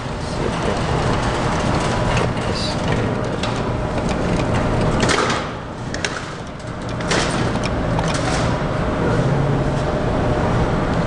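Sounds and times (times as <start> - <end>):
steady noisy background: 0.0 - 11.0.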